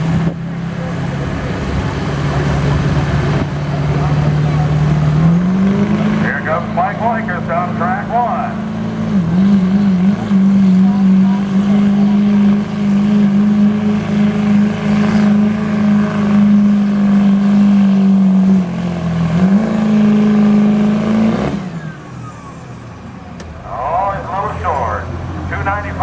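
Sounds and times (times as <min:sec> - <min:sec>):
diesel engine revving high: 0:00.0 - 0:26.0.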